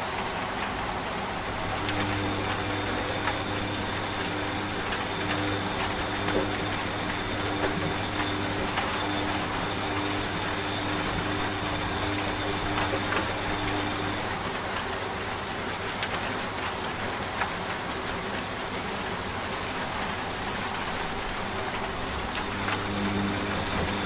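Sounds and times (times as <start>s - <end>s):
steady rain: 0.0s - 24.0s
washing machine hum: 0.0s - 24.0s.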